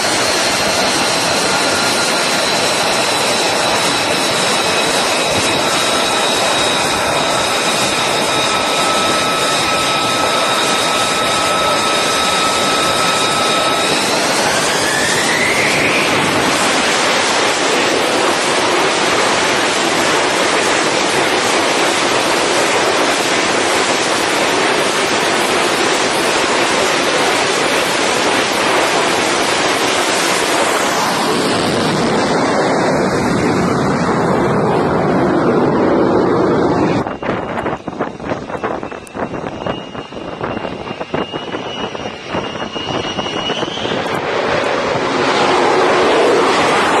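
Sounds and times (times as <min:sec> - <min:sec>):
jet engine spooling up: 0:00.0 - 0:47.0.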